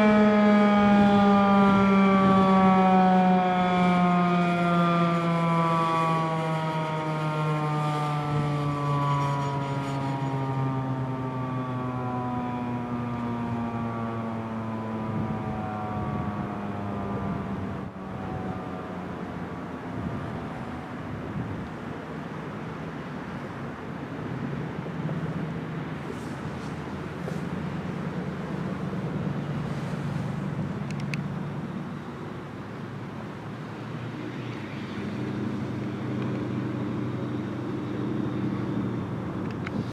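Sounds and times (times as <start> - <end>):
tornado siren winding down: 0.0 - 39.9.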